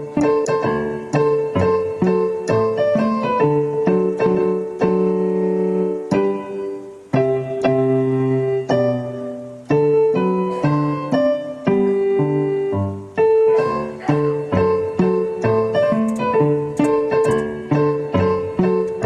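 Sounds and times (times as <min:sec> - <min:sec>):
slow solo piano melody: 0:00.0 - 0:19.0.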